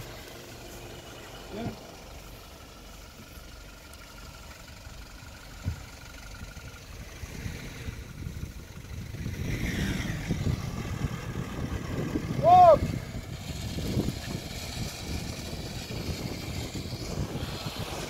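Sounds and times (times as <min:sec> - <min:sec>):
pickup engine revving: 0:00.0 - 0:18.0.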